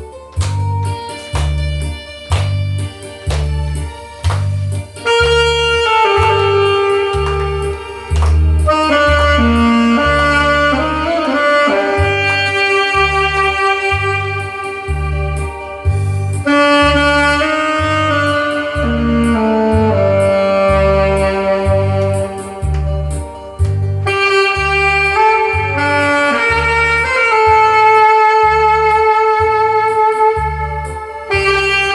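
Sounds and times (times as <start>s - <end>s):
backing track with bass beat: 0.0s - 31.9s
saxophone melody: 0.0s - 31.9s.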